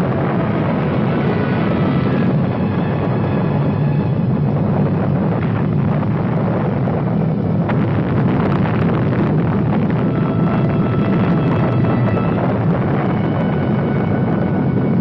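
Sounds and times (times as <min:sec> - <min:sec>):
large engine rumbling: 0:00.0 - 0:15.0.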